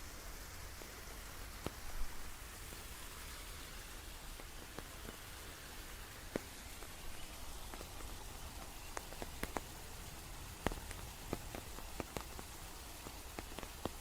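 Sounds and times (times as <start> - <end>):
single raindrops ticking: 0.0 - 14.0
steady rain hiss: 0.0 - 14.0.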